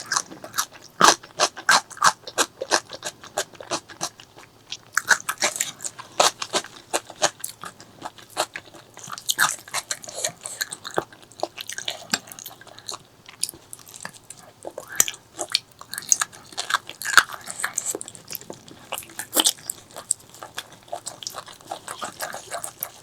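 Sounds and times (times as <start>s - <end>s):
chewing and crunching: 0.0s - 23.0s.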